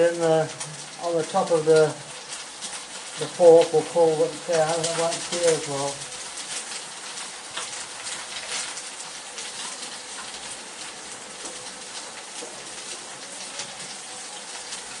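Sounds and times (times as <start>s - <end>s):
meat sizzling in a wok: 0.0s - 15.0s.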